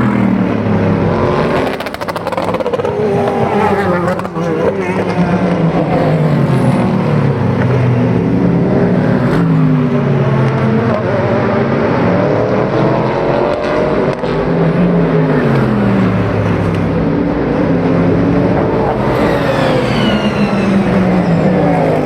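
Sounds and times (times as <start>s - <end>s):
racing car engines downshifting: 0.0s - 22.0s.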